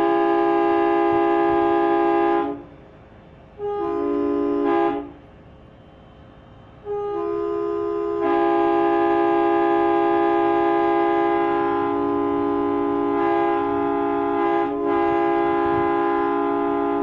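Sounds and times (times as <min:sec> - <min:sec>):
train air horn blasts: 0:00.0 - 0:02.8, 0:03.5 - 0:17.0.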